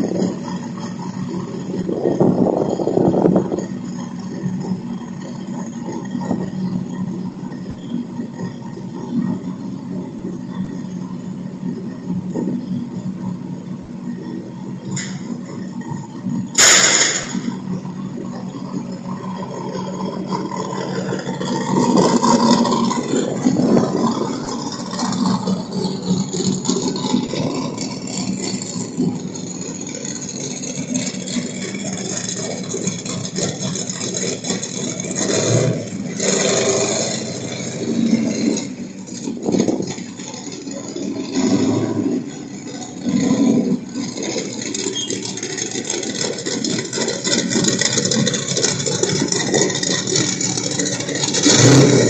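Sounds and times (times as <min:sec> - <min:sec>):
rattles: 0:00.0 - 0:52.0
truck engine running: 0:00.0 - 0:52.0.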